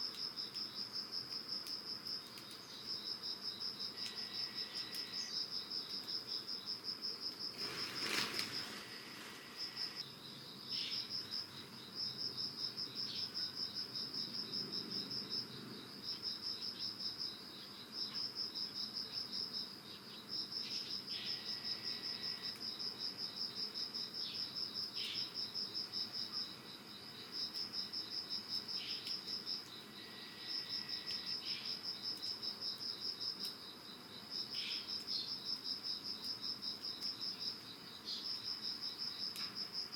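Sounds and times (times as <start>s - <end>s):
insects trilling: 0.0s - 39.9s
rustle: 0.0s - 39.9s.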